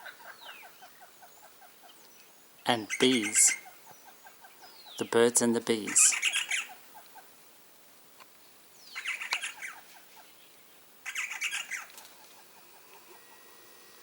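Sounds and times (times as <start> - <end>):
birds calling harshly: 0.0 - 7.5, 8.4 - 14.0.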